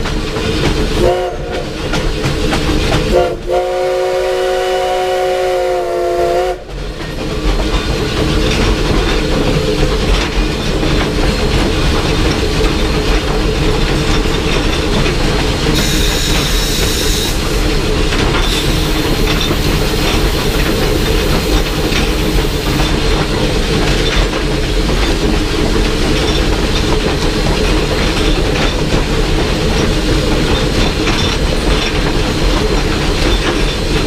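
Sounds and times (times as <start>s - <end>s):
wheels clicking over rail joints: 0.0s - 3.3s, 6.7s - 34.0s
locomotive rumbling and rattling: 0.0s - 34.0s.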